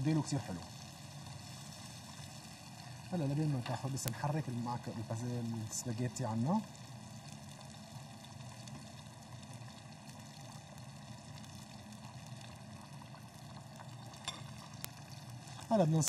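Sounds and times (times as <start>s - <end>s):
water bubbling in a pot: 0.0s - 16.0s.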